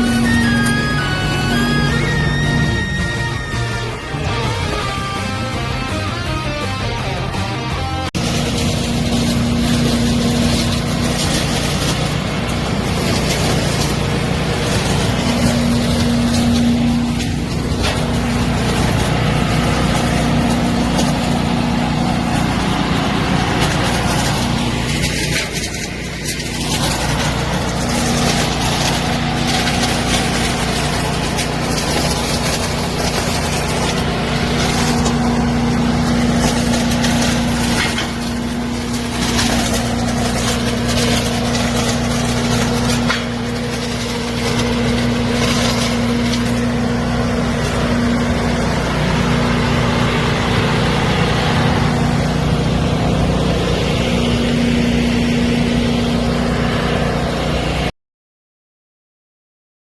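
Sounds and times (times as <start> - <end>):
loud engine drone: 0.0 - 57.9
steady machine whine: 0.0 - 57.9.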